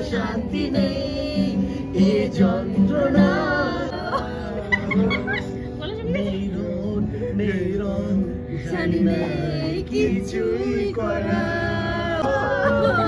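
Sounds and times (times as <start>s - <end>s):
man singing: 0.0s - 5.4s, 6.2s - 13.0s
group singing together: 0.0s - 5.5s, 6.3s - 13.0s.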